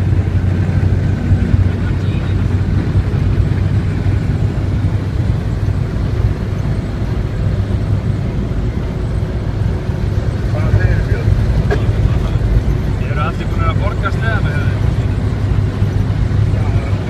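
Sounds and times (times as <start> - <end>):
tyres on road: 0.0 - 17.0
vehicle engine rumble: 0.0 - 17.0.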